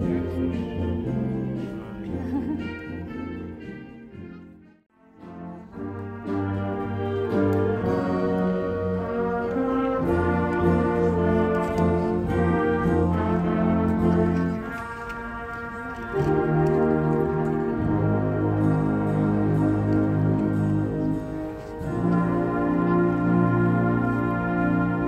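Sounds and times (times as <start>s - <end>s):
wind band brass chords: 0.0s - 25.0s.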